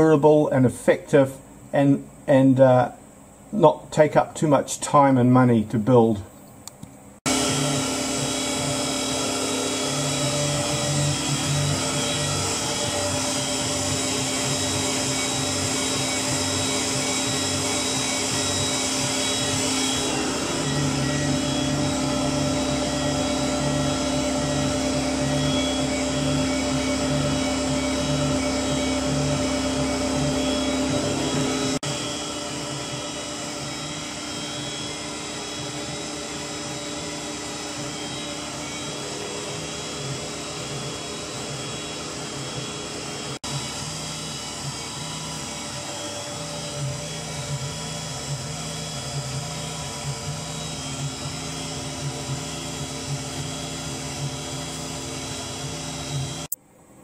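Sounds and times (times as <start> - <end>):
mill spindle whine: 0.0 - 0.6, 7.2 - 57.0
low pulsing of cutter: 7.2 - 56.7.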